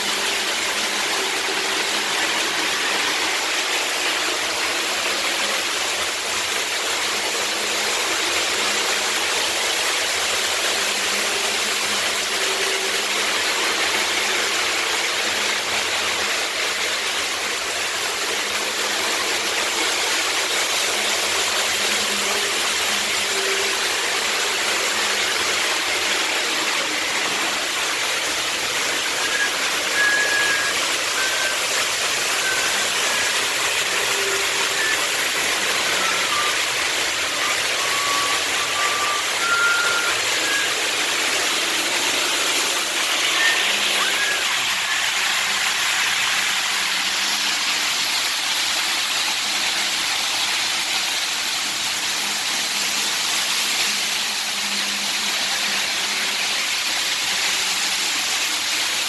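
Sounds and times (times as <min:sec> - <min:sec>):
model trains whirring and rumbling: 0:00.0 - 0:59.0.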